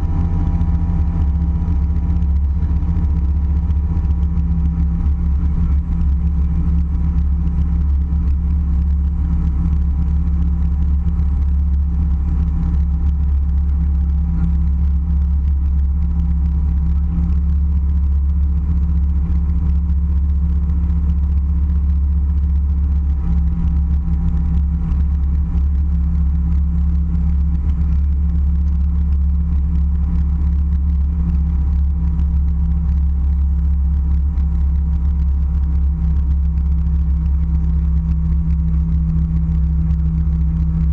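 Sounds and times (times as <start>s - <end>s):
engine drone and rushing air: 0.0s - 40.9s
faint steady whine: 0.0s - 40.9s.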